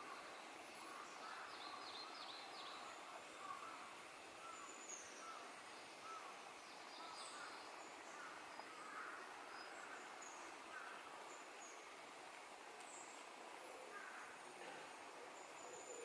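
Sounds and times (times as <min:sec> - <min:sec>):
faint birdsong: 0:00.0 - 0:16.0
steady outdoor hiss: 0:00.0 - 0:16.0.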